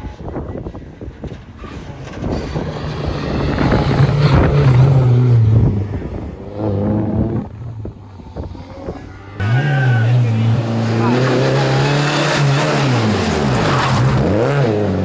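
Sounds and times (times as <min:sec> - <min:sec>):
rally car engine passing by: 0:00.6 - 0:15.0.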